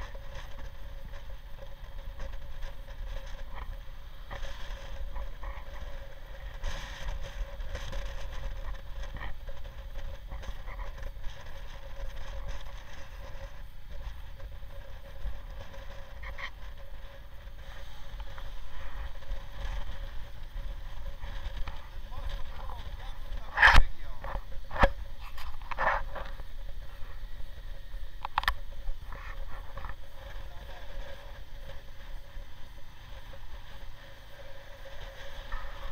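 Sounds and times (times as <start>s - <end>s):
motorcycle engine humming: 0.0s - 35.9s
wind buffeting microphone: 0.0s - 35.9s.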